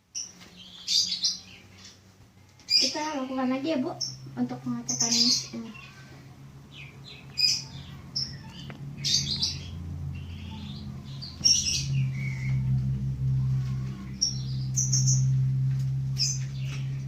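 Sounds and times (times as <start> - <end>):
steady low hum: 0.0 - 17.0
small birds chirping: 0.1 - 17.0.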